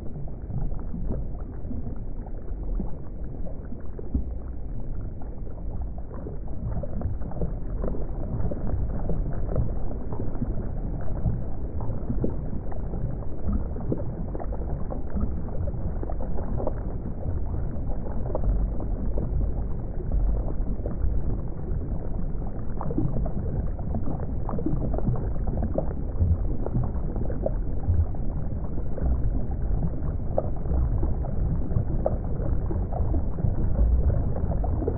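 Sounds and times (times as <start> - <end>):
faint crackles and pops: 0.0 - 34.9
muffled underwater water noise: 0.0 - 34.9.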